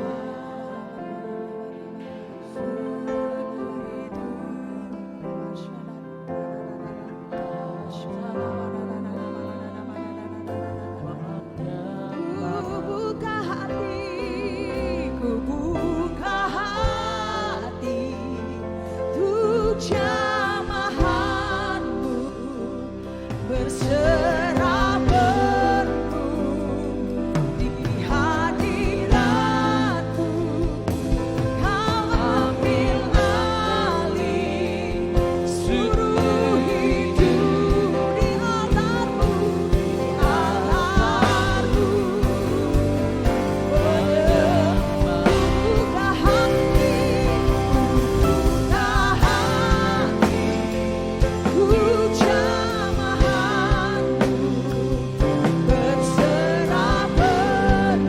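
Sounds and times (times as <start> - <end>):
band with keyboard and bass: 0.0 - 58.0
person singing with vibrato: 0.0 - 58.0.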